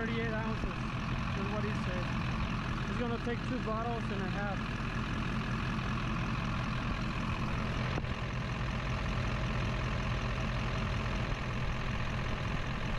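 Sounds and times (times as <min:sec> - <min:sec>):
truck diesel engine idling: 0:00.0 - 0:12.9.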